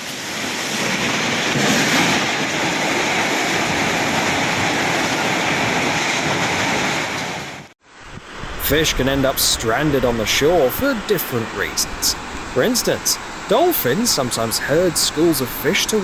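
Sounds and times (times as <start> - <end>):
strong storm wind: 0.0 - 16.0.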